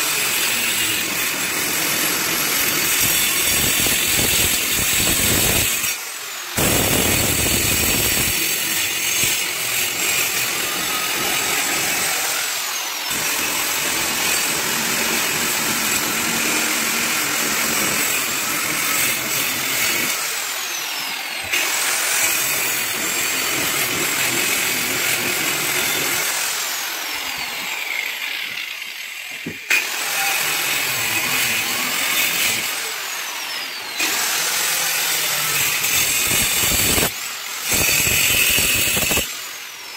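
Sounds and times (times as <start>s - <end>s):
power tool grinding into brick: 0.0s - 39.9s.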